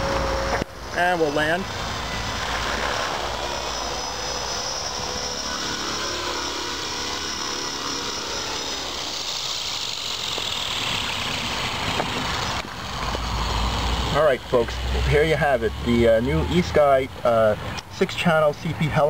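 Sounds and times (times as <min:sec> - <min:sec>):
helicopter motor and rotor whine: 0:00.0 - 0:19.0.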